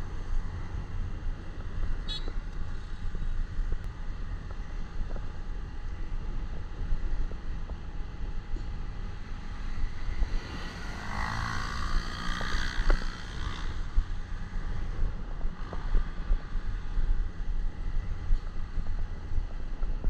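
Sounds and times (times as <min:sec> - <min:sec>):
motorcycle engine rumble: 0:00.0 - 0:20.0.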